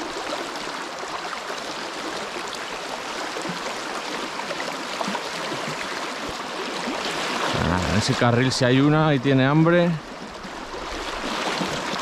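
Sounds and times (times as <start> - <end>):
river water rushing over stones: 0.0 - 12.0.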